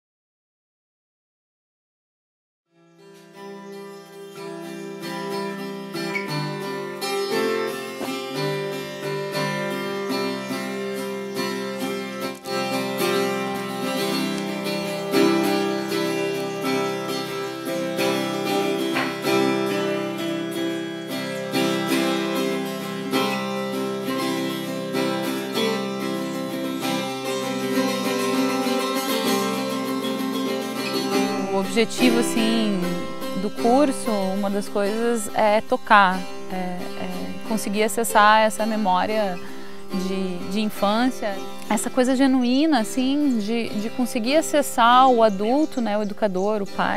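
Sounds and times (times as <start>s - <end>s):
acoustic guitar music: 3.0s - 46.9s.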